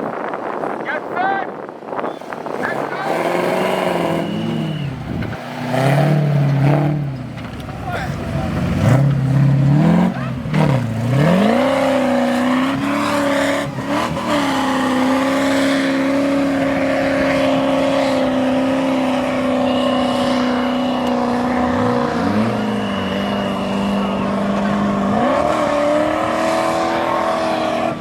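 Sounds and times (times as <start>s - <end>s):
car engine revving hard: 2.3s - 28.0s.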